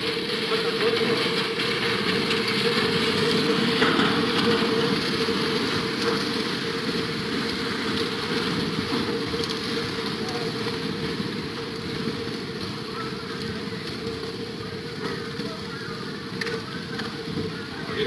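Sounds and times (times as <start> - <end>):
flood water rushing: 0.0 - 18.0.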